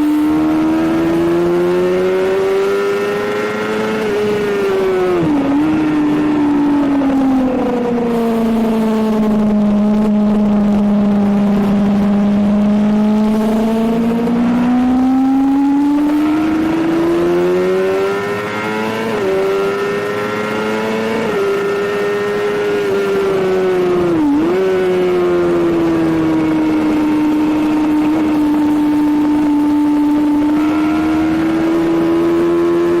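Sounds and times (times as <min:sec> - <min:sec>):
motorcycle engine at high revs: 0:00.0 - 0:33.0
wind noise: 0:00.0 - 0:33.0.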